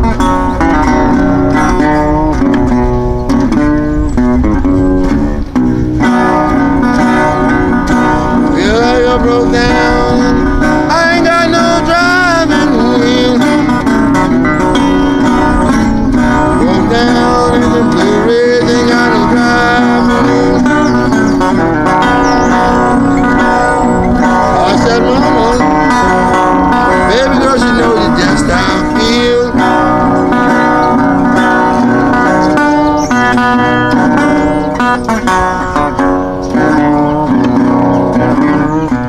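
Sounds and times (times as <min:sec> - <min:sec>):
fingerpicked resonator guitar blues: 0:00.0 - 0:39.0.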